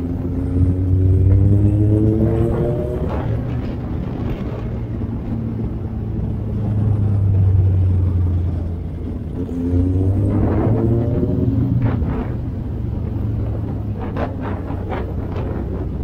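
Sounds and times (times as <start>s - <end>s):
motorcycle engine cruising: 0.0s - 16.0s
wind and road noise: 0.0s - 16.0s.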